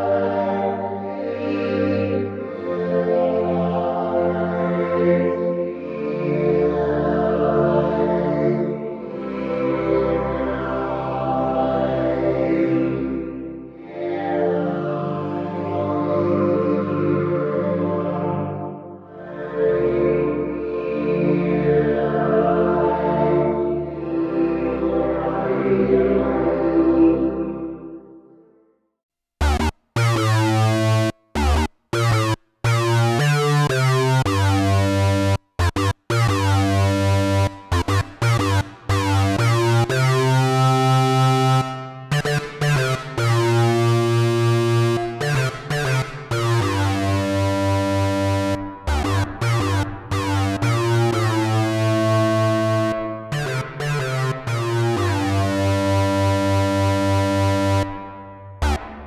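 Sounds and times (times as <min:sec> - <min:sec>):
synthesizer with reverb: 0:00.0 - 0:25.7, 0:29.4 - 0:59.0.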